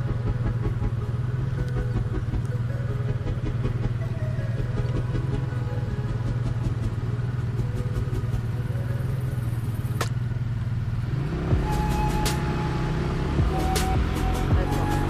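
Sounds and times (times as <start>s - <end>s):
motorbike engine idling: 0.0s - 15.0s.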